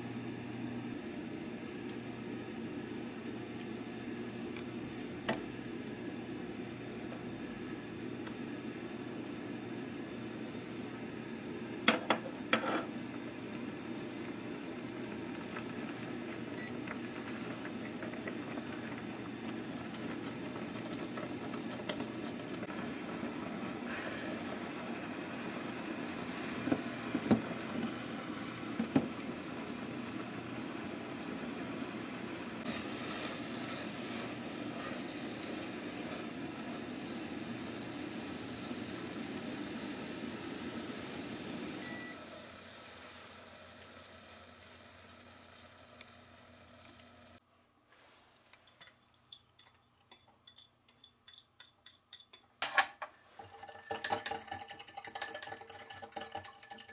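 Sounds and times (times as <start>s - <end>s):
sauce bubbling in a pot: 0.9s - 47.4s, 53.2s - 56.9s.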